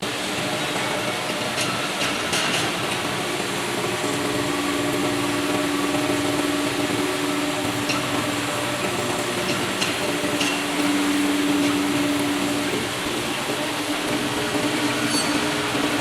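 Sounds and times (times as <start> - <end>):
machine tool humming: 0.0 - 16.0.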